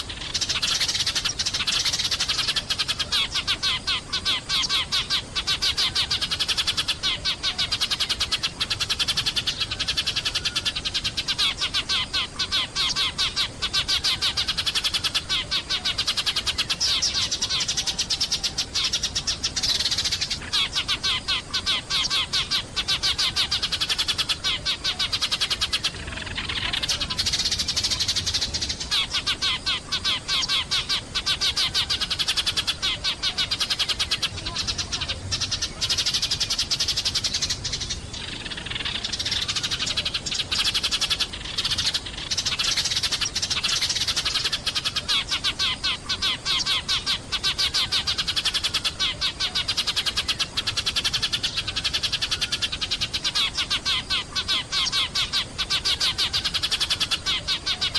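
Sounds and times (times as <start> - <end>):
sparrows chirping: 0.0 - 57.9.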